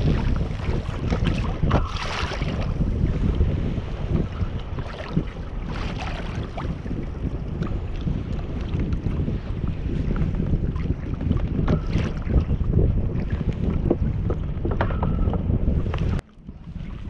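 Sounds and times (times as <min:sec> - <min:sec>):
water lapping against hull: 0:00.0 - 0:17.0
wind buffeting microphone: 0:00.0 - 0:17.0.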